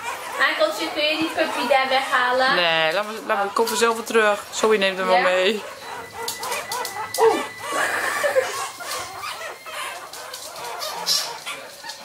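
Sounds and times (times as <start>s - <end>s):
ferret kits squeaking: 0.0s - 12.0s.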